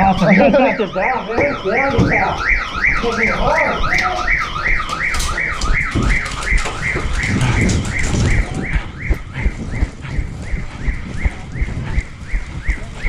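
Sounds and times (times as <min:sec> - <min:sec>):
electronic alarm warbling: 0:00.0 - 0:13.0.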